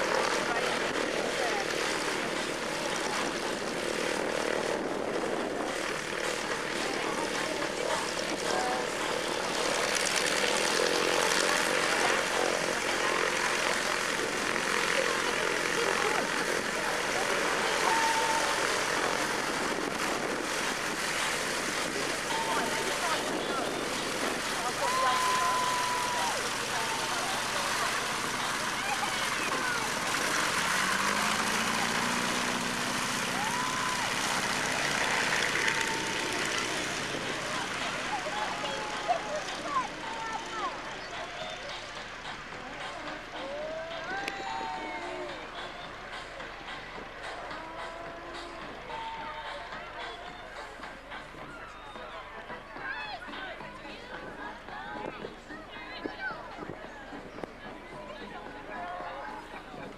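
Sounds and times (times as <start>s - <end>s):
propeller aircraft engine: 0.0s - 57.9s
broad rushing noise: 0.0s - 59.9s.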